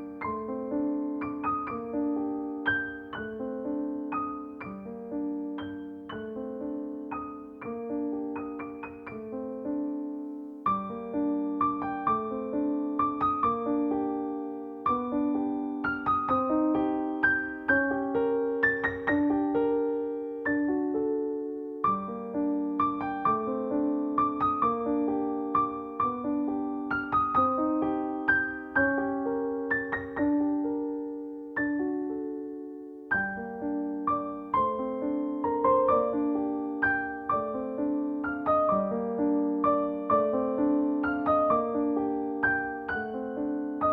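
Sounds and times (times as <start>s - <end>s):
slow piano melody: 0.0s - 43.9s.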